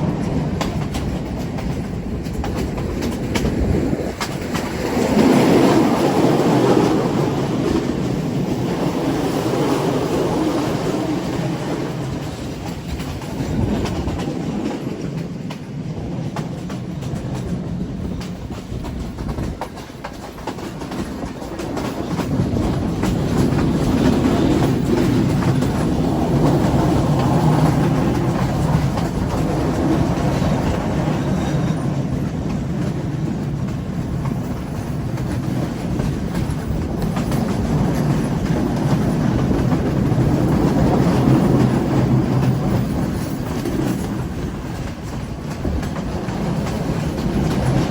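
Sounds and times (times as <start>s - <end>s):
passenger train rumbling: 0.0s - 47.9s
wheels clicking over rail joints: 0.0s - 47.9s.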